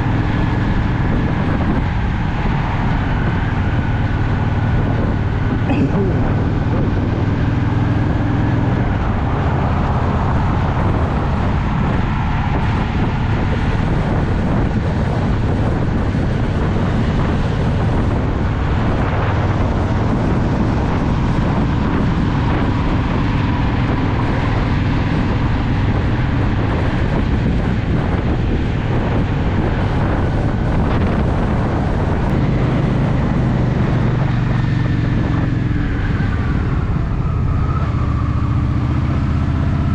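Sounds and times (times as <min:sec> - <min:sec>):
motorcycle engine running: 0:00.0 - 0:37.0
wind noise on microphone: 0:00.0 - 0:39.9.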